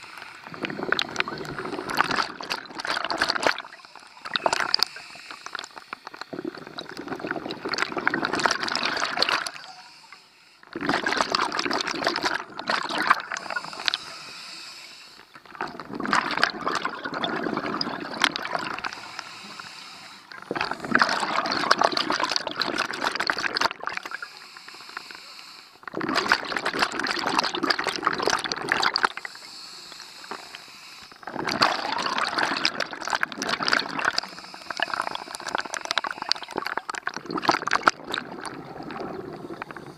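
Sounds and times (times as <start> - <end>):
scuba exhalation bubbles: 0.0 - 9.7, 10.7 - 14.2, 15.4 - 24.3, 25.8 - 29.4, 31.2 - 39.9.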